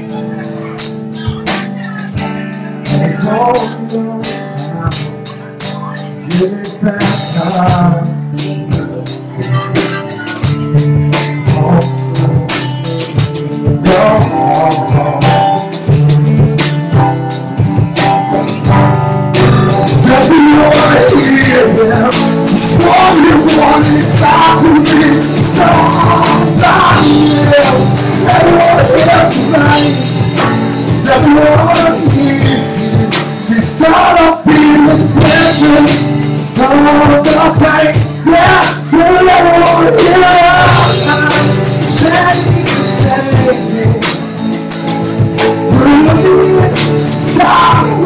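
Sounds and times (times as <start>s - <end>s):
drum kit beat: 0.0s - 48.0s
live rock band playing: 0.0s - 48.0s
man singing: 0.0s - 48.0s.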